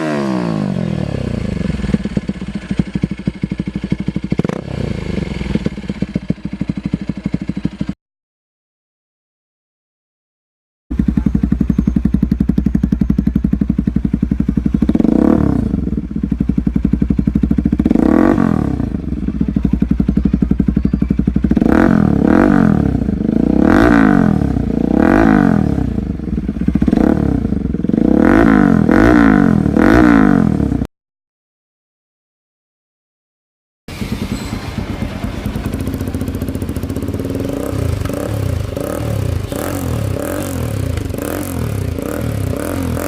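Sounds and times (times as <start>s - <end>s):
motorcycle engine idling and revving: 0.0s - 8.0s, 10.9s - 30.9s, 33.9s - 43.0s.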